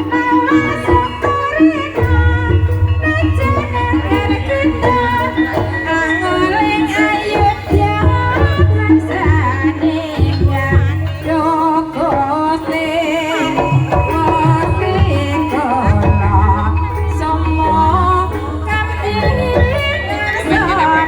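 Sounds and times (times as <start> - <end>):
gamelan instruments playing: 0.0 - 21.0
person singing: 0.0 - 21.0.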